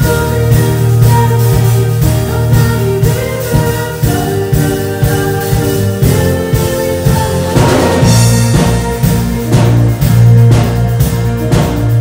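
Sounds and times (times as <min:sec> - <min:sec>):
woman singing lead vocal: 0:00.0 - 0:09.8
live worship band playing: 0:00.0 - 0:12.0.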